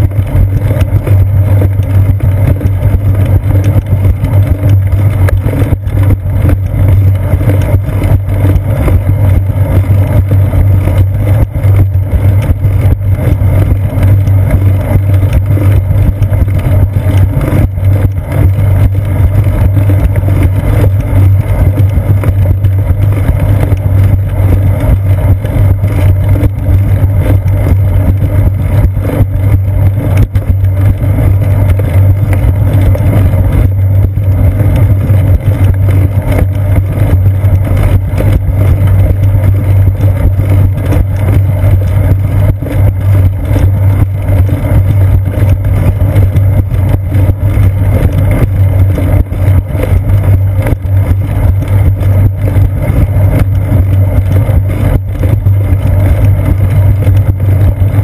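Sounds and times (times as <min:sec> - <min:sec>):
wind and ride vibration rumble: 0:00.0 - 0:58.0.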